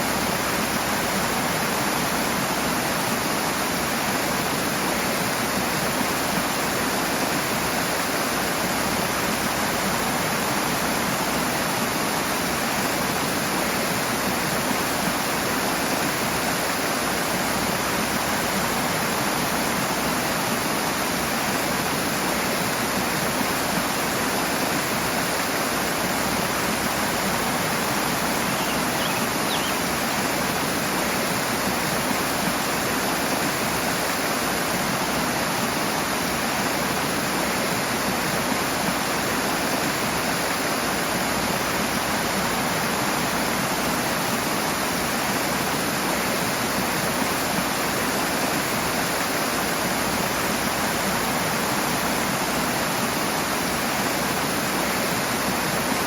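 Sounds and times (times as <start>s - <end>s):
rushing water of a stream: 0.0s - 56.0s.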